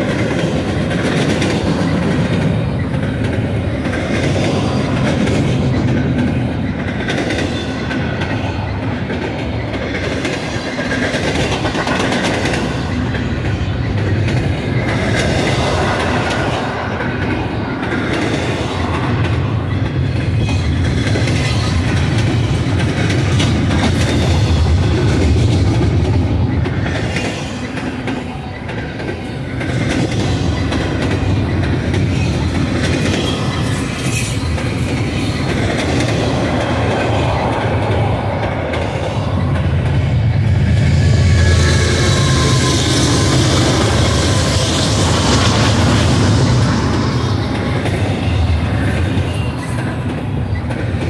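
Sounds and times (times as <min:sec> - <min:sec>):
train rolling past rumble: 0:00.0 - 0:51.0.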